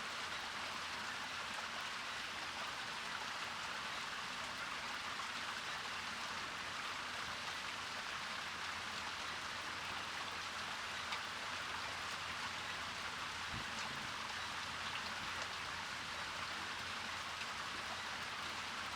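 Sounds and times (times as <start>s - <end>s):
fountain splashing and trickling: 0.0s - 18.9s.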